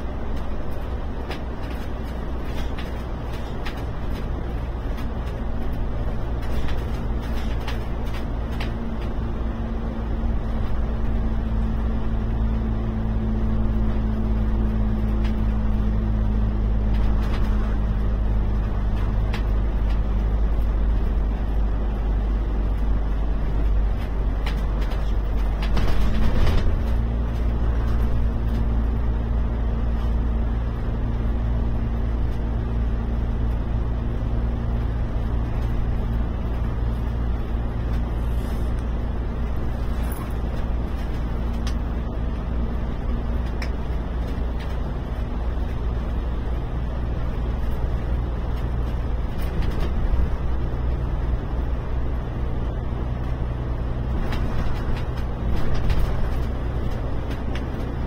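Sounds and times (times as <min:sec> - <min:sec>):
bus engine hum: 0:00.0 - 0:58.0
road and tunnel noise: 0:00.0 - 0:58.0.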